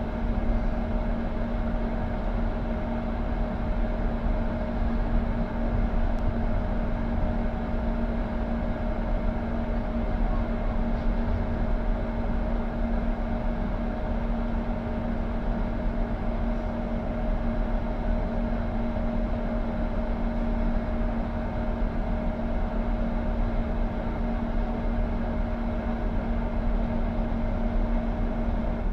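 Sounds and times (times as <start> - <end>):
constant two-pitch hum: 0.0 - 28.9
train rumble from inside carriage: 0.0 - 28.9.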